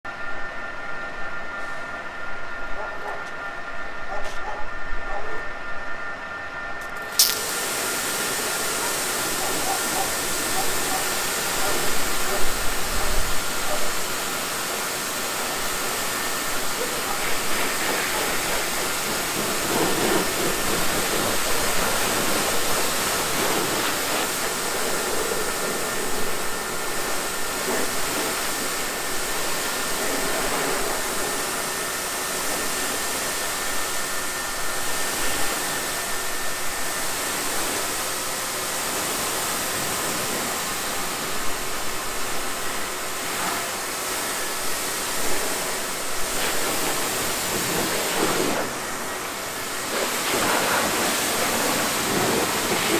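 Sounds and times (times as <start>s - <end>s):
pump whine: 4.9s - 52.9s
pressure washer spraying water: 6.8s - 52.9s.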